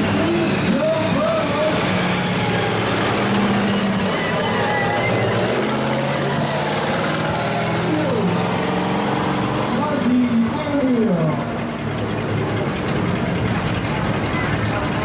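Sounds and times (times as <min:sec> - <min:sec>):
large crowd noise: 0:00.0 - 0:15.0
pickup truck engines running: 0:00.0 - 0:15.0.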